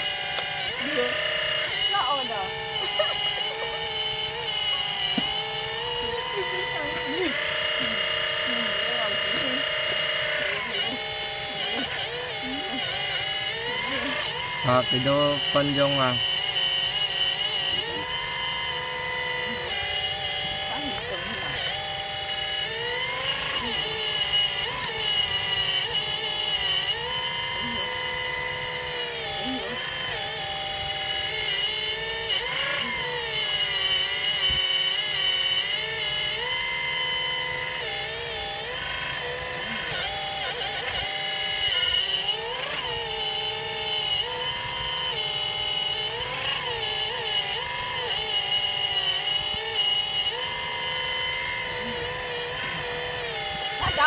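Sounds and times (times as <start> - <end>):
model excavator motor whining: 0.0 - 54.0.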